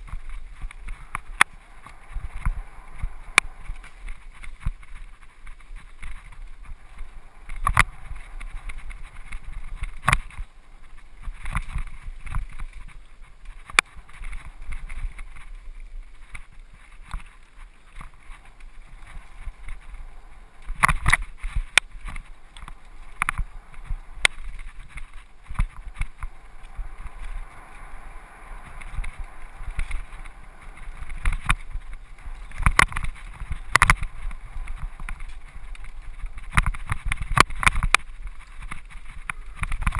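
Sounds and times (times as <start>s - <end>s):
bike knocking and rattling: 0.0s - 39.9s
tyres rumbling on dirt trail: 0.0s - 39.9s
wind rushing over microphone: 0.0s - 39.9s.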